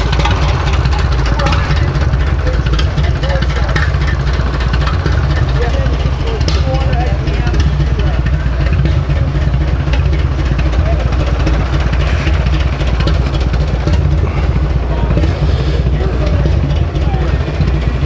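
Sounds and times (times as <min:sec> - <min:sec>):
people's voices: 0:00.0 - 0:18.0
vehicle engine idling: 0:00.0 - 0:18.0.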